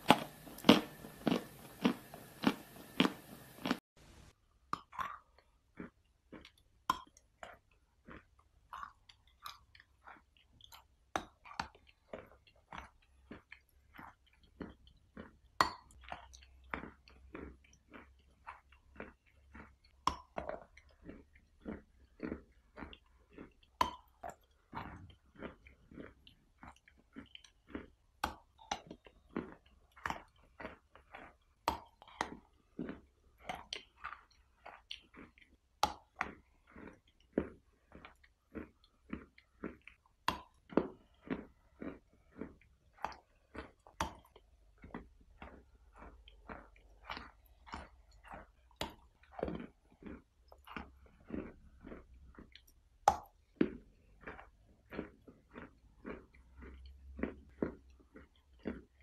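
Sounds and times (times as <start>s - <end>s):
chewing chalky substance: 0.0s - 59.0s.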